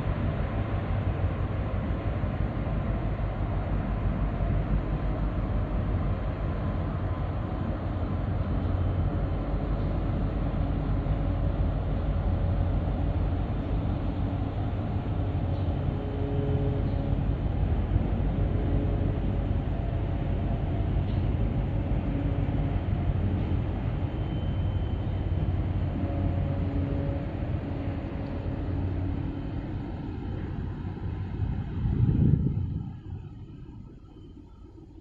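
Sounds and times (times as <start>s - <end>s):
ship engine and propeller rumble: 0.0s - 35.0s.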